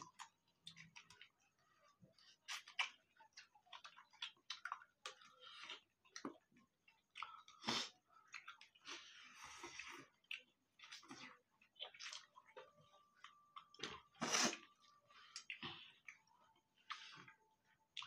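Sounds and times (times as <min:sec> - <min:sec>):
people chewing and lip-smacking: 0:00.0 - 0:18.0.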